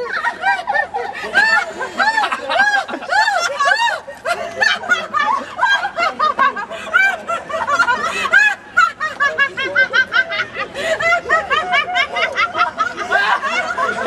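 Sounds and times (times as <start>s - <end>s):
people laughing hard: 0.0s - 14.0s.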